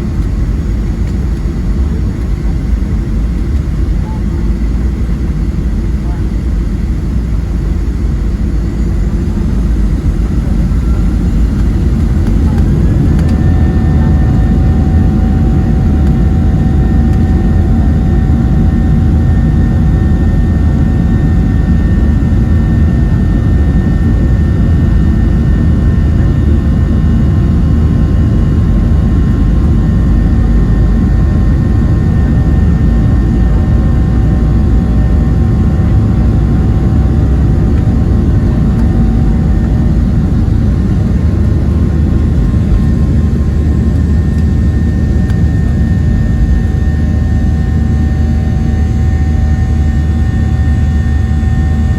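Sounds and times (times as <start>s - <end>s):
jet engines rumbling: 0.0s - 51.9s
steady whining tones: 6.8s - 51.9s.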